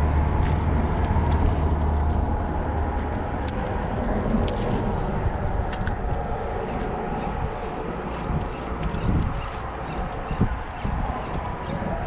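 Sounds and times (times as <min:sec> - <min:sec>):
traffic rumble on bridge: 0:00.0 - 0:12.0.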